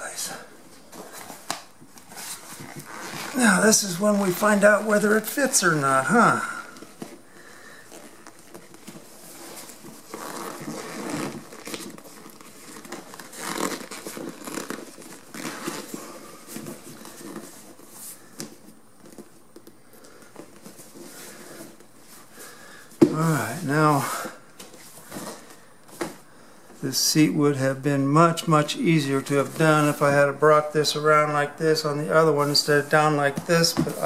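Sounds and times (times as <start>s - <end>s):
cover material rustling and crinkling: 0.6s - 26.3s, 32.3s - 34.0s.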